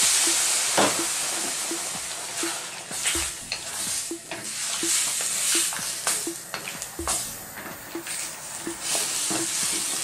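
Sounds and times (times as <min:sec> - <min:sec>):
hot wok hissing and sizzling: 0:00.0 - 0:10.0.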